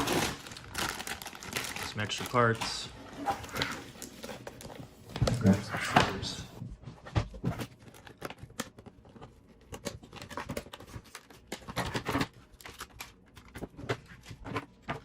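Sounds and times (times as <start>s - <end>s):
packaging rustling and crinkling: 0.0s - 6.3s, 7.3s - 15.0s.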